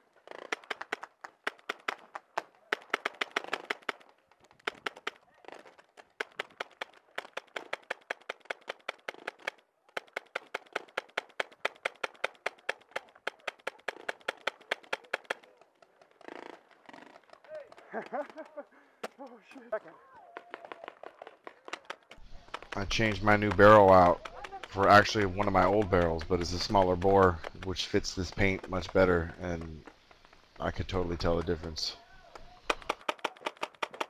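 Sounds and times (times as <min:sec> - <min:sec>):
paintball marker firing rapidly: 0:00.2 - 0:19.2, 0:20.2 - 0:34.0.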